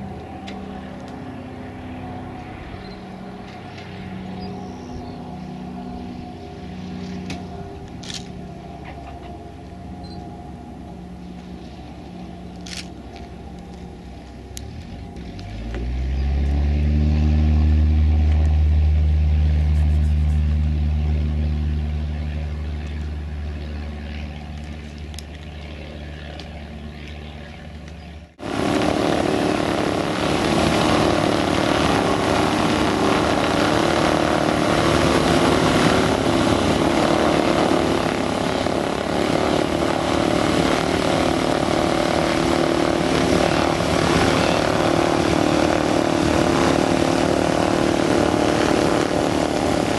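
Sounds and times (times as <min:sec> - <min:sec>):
propeller plane engine droning: 0:00.0 - 0:49.9
rough plane engine running nearby: 0:00.0 - 0:49.9.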